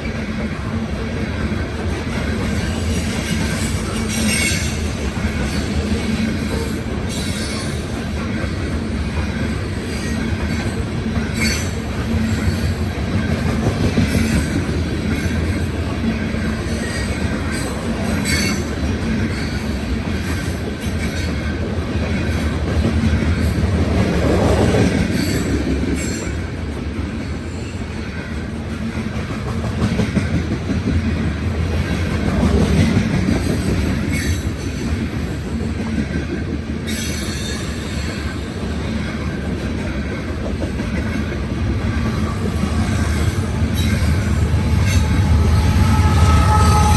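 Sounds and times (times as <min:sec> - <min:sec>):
train rail rumble: 0:00.0 - 0:46.9.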